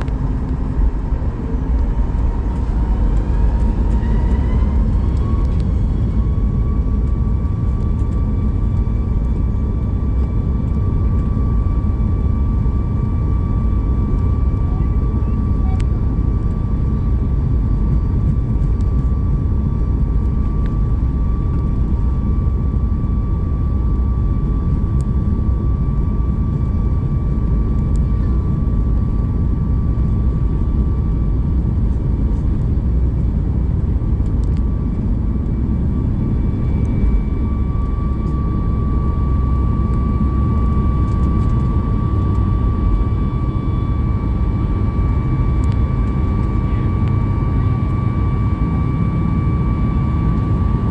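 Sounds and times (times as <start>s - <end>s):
higher whine: 0.0s - 50.9s
jet engine rumble: 0.0s - 50.9s
steady engine whine: 0.0s - 50.9s.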